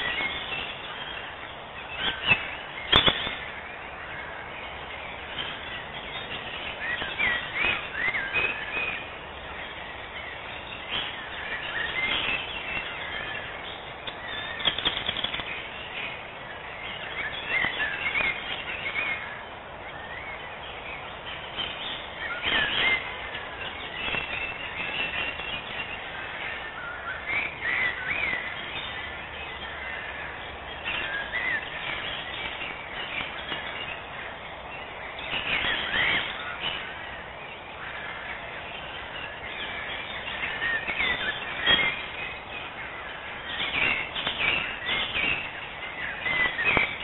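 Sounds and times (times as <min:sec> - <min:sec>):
small birds chirping: 0:00.0 - 0:47.0
steady outdoor hiss: 0:00.0 - 0:47.0.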